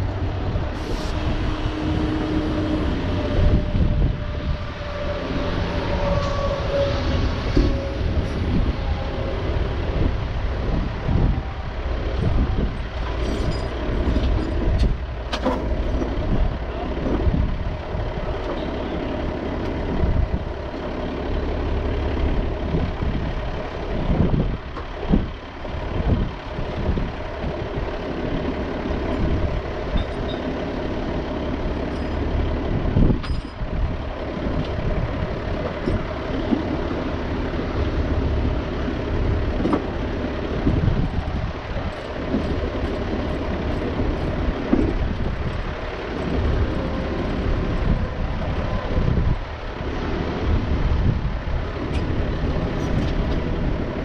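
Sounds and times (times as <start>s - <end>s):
large engine idling: 0.0s - 54.0s
wind rumbling on microphone: 0.0s - 54.0s.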